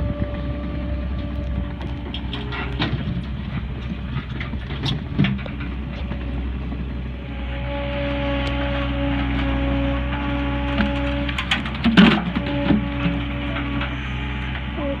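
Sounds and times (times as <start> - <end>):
loader engine running: 0.0 - 15.0.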